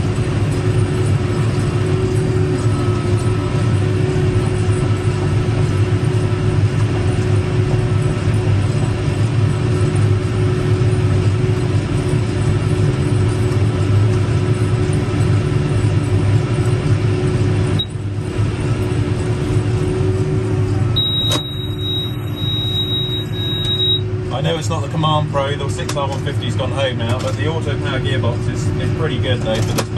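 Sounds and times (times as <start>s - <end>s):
steady hum: 0.0s - 29.9s
tractor engine drone: 0.0s - 29.9s.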